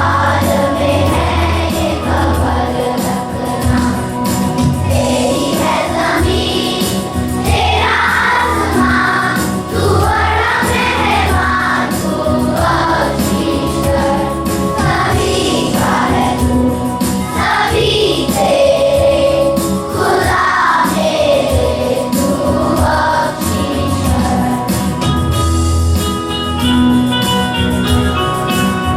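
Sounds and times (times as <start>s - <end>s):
choir singing: 0.0s - 25.0s
instrumental accompaniment: 0.0s - 28.9s.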